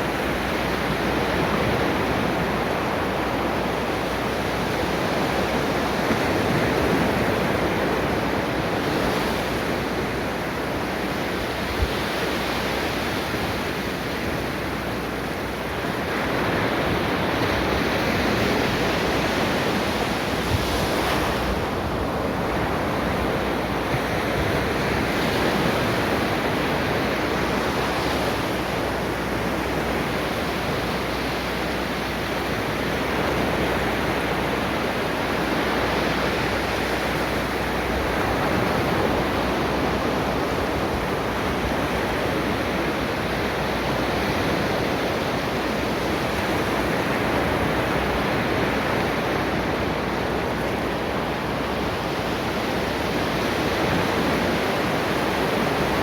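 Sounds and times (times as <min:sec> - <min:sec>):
ocean waves breaking on shore: 0:00.0 - 0:56.0
wind on microphone: 0:00.0 - 0:56.0.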